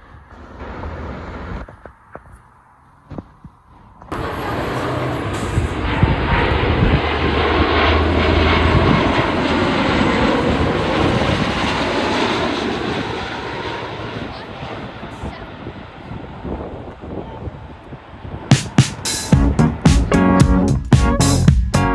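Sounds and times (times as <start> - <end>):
jet airliner engines passing: 0.0 - 20.7.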